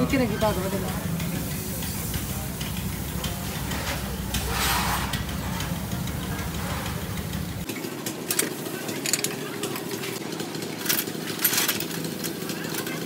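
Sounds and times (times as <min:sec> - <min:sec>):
diesel tractor engine idling: 0:00.0 - 0:11.4.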